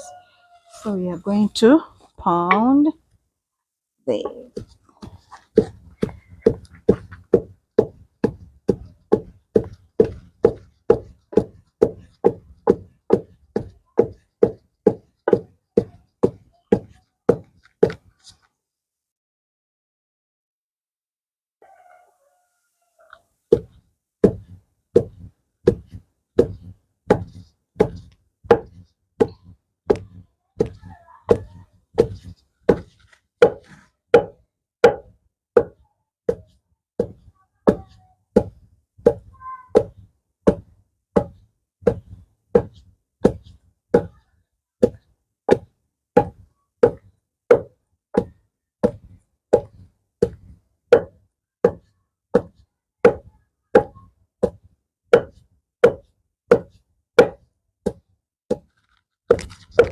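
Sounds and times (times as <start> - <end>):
pestle pounding in a mortar: 4.5 - 18.0, 23.6 - 37.8, 38.4 - 44.2, 44.8 - 59.9.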